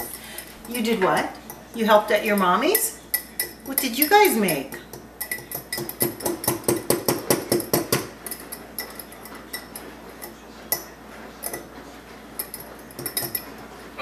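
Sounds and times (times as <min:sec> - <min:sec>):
utensil clinking against a cup: 0:00.0 - 0:13.7.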